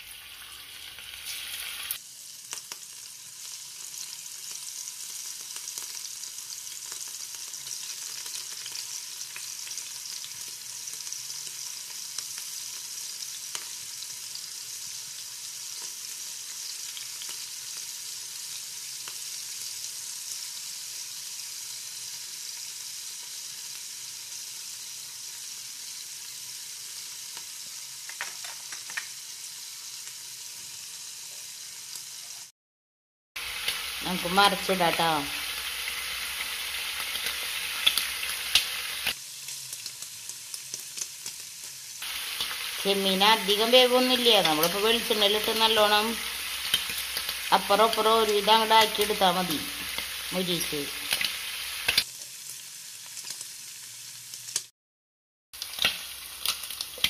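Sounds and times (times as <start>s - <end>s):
prawns sizzling in a pan: 0.0s - 32.5s, 33.4s - 54.7s, 55.5s - 57.0s.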